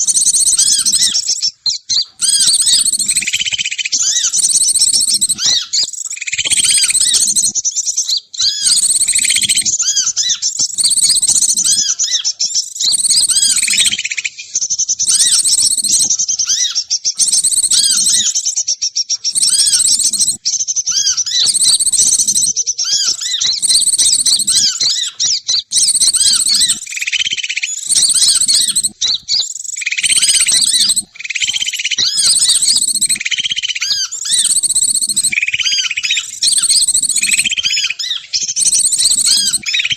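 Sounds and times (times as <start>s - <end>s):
high-pitched bird chirping: 0.0s - 39.9s.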